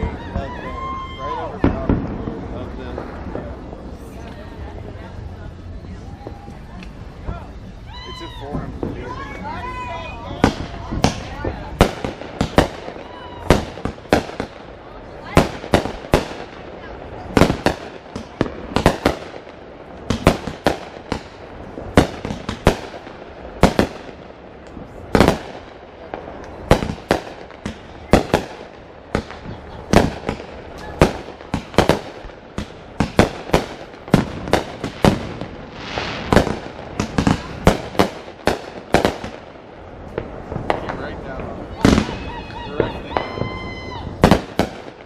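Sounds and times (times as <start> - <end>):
fireworks bangs with echo: 0.0 - 45.0.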